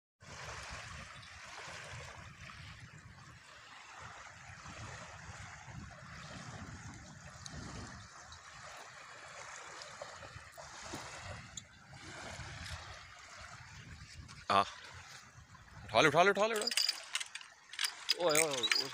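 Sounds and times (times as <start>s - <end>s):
waves lapping on stony shore: 0.2s - 18.9s.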